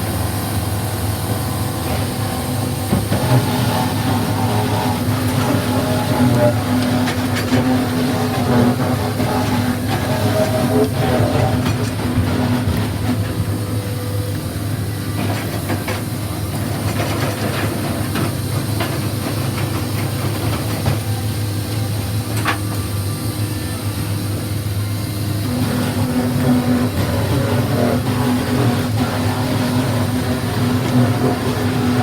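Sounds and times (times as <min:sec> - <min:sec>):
log debarker machine hum: 0:00.0 - 0:32.0.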